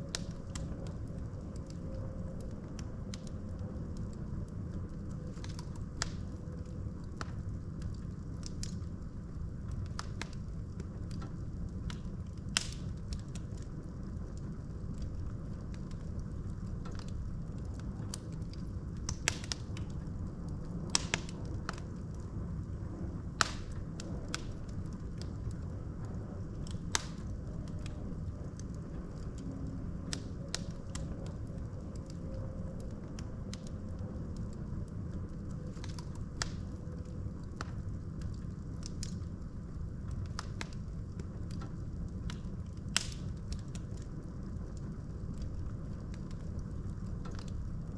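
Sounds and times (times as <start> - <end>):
fire flames rumbling: 0.0 - 47.9
wood crackling and popping: 0.0 - 47.9.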